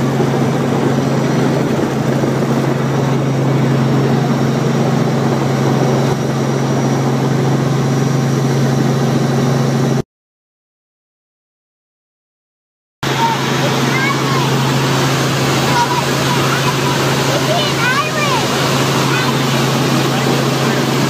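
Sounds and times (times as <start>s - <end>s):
helicopter engine and rotors droning: 0.0s - 10.0s, 13.0s - 21.0s.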